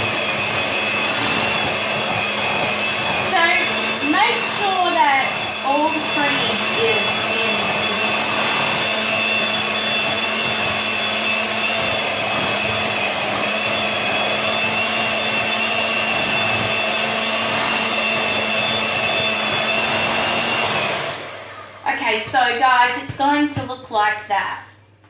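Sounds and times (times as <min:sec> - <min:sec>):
electric mixer running: 0:00.0 - 0:23.3.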